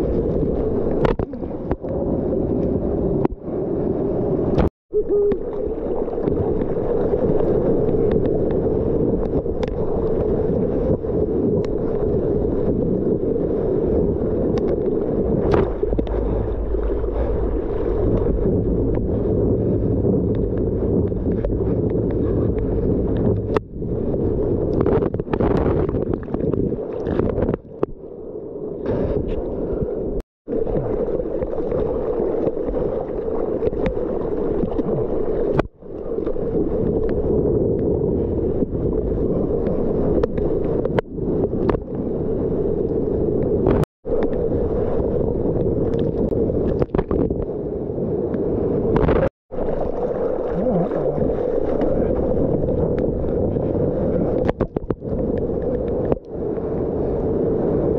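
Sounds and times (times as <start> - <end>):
sea water rushing and splashing: 0.0 - 57.9
underwater gurgling: 0.0 - 57.9
wind buffeting microphone: 0.0 - 57.9.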